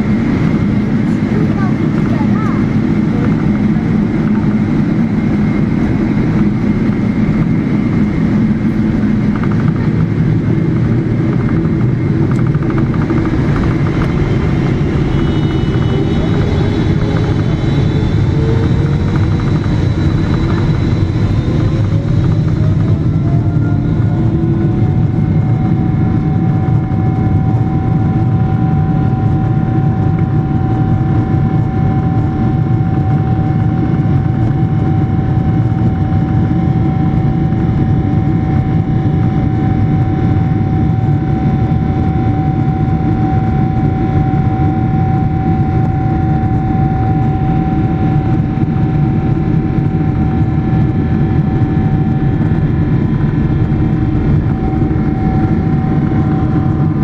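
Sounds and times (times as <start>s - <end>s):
jet engines heard from cabin: 0.0s - 57.0s.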